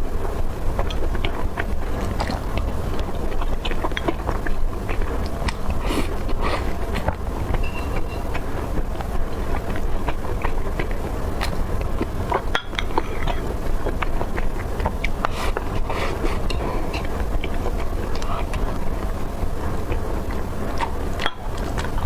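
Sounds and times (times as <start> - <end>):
steady low rumble: 0.0 - 22.0
person chewing crunchy food: 0.7 - 22.0.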